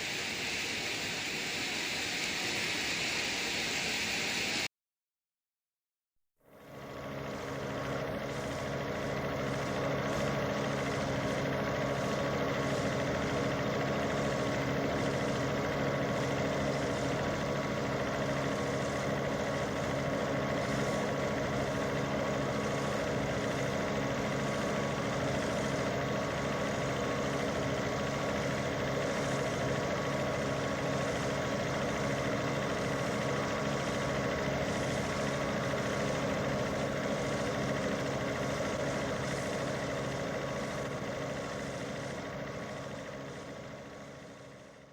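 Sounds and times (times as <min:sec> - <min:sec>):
engine idling: 0:06.5 - 0:44.9.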